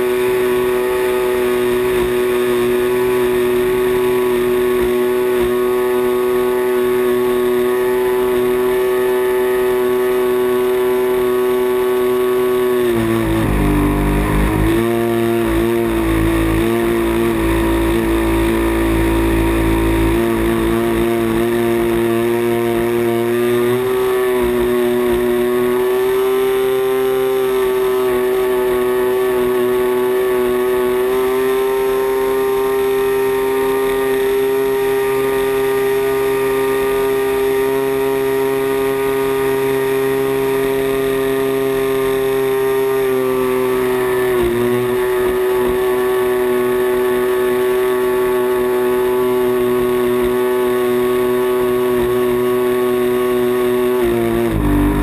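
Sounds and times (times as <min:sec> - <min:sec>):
model plane engine and propeller: 0:00.0 - 0:55.0.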